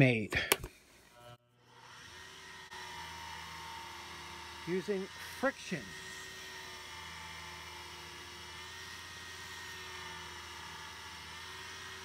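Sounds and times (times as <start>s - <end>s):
wood lathe motor whirring: 1.1s - 12.0s.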